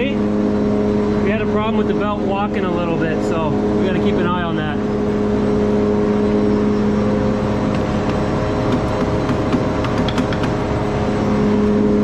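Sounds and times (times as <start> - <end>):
mill machinery humming: 0.0 - 12.0.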